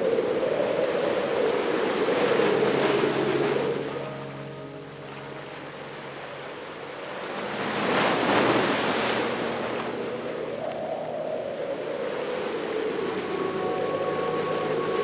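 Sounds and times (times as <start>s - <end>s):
ocean waves breaking: 0.3s - 15.0s.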